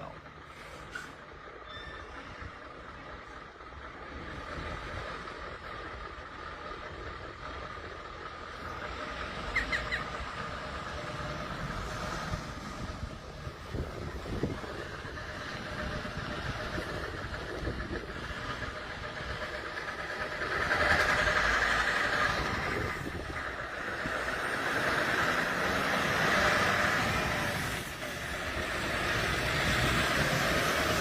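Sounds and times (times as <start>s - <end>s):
heavy truck engine and road noise: 0.0s - 31.0s.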